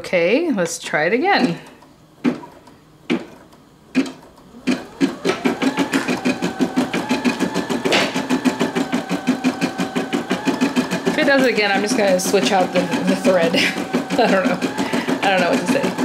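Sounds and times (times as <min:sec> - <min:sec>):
embroidery machine stitching: 0:01.3 - 0:16.0.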